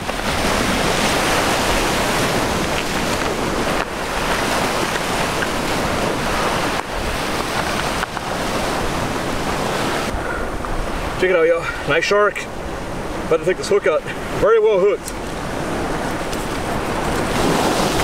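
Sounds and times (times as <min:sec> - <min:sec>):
wind on microphone: 0:00.0 - 0:14.4, 0:15.0 - 0:18.0
surf washing on rocks: 0:00.0 - 0:18.0.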